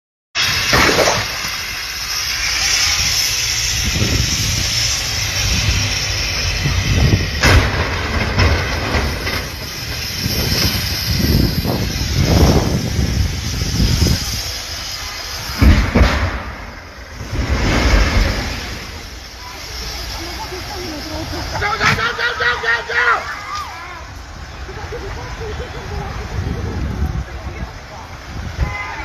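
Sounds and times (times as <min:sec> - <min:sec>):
road vehicles rumbling: 0:00.4 - 0:29.0.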